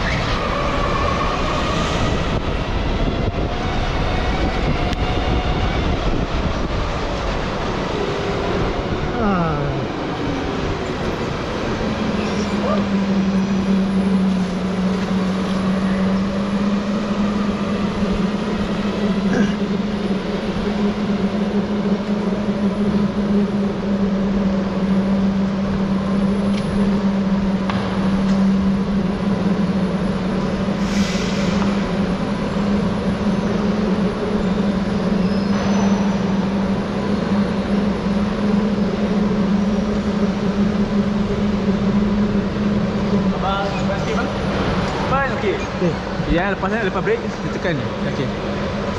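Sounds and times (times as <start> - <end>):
wind and tyre noise: 0.0 - 48.9.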